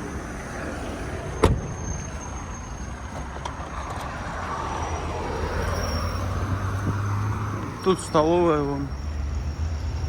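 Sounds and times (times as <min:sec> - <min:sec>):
passing vehicle engine and tyres: 0:00.0 - 0:10.0.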